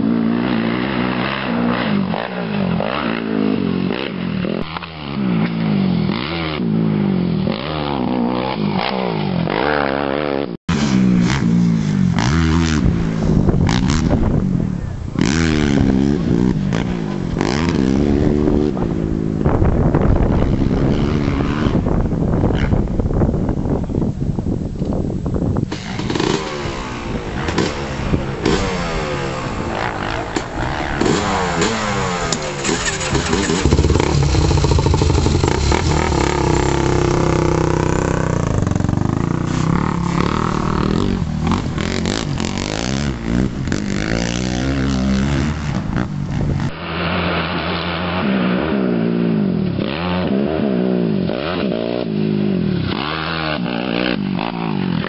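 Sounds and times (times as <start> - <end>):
quad engines revving: 0.0 - 23.5, 25.6 - 55.0.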